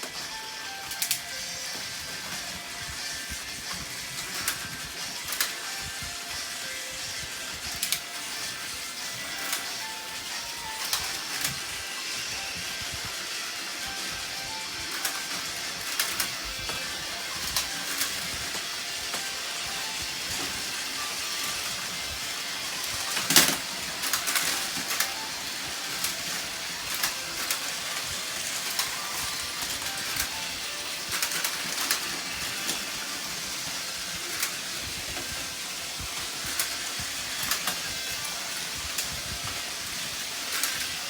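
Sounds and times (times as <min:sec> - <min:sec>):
toy train crash: 0:00.0 - 0:41.0
toy trains whirring: 0:00.0 - 0:41.0.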